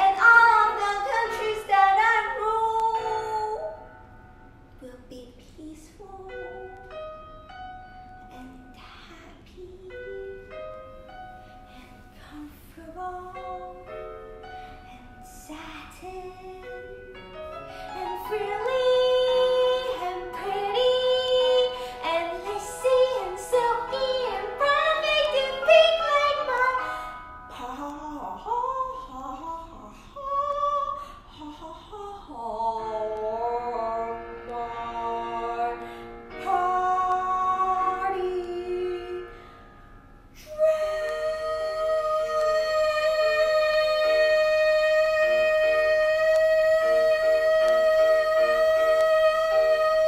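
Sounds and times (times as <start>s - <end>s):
girl singing: 0.0s - 3.8s, 4.8s - 7.1s, 8.2s - 10.8s, 11.7s - 14.0s, 14.9s - 17.4s, 18.0s - 39.3s, 40.4s - 50.0s
recorded musical accompaniment: 0.0s - 50.0s.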